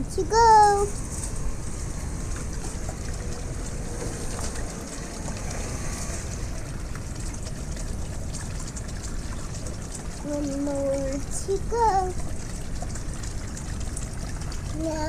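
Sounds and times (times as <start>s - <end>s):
water trickling into pond: 0.0s - 15.0s.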